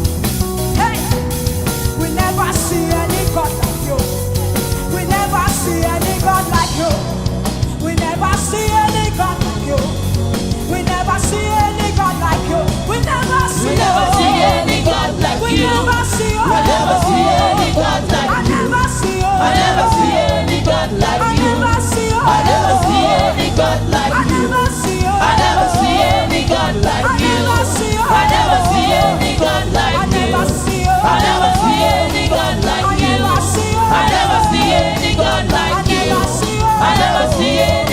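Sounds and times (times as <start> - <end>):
gospel band playing: 0.0 - 37.9
voices singing: 0.0 - 37.9.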